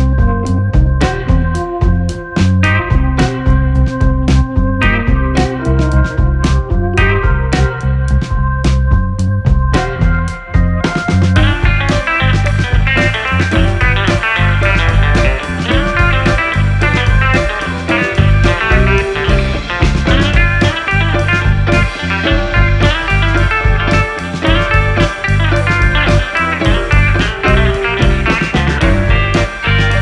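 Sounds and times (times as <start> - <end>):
bass line: 0.0 - 30.0
guitar-led background music: 0.0 - 30.0
steady beat: 0.2 - 30.0.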